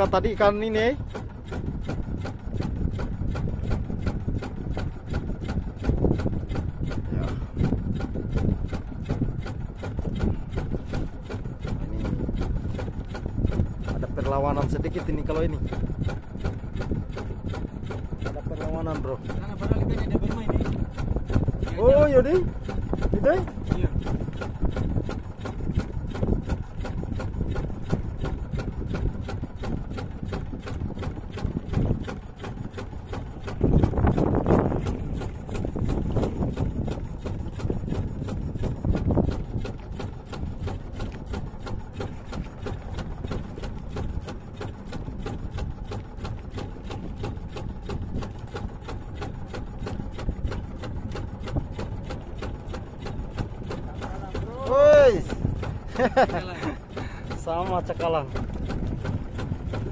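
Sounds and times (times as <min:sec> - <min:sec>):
small boat engine running: 0:00.0 - 0:59.9.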